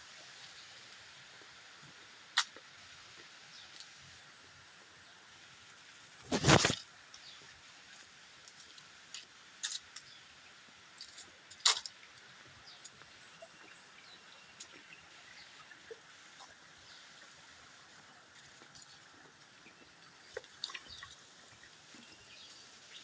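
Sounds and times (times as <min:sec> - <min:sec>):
faint outdoor hiss: 0:00.0 - 0:23.0.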